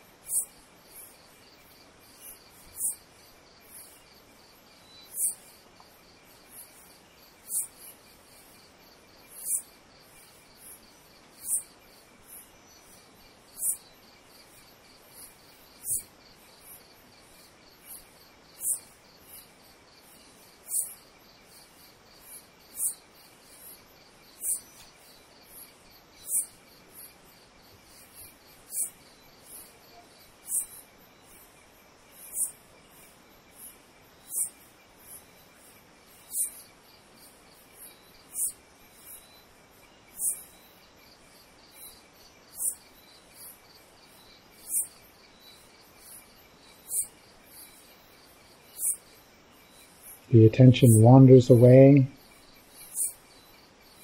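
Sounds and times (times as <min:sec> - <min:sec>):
insect high chirp: 0:00.0 - 0:54.0
steady insect trill: 0:00.0 - 0:54.0.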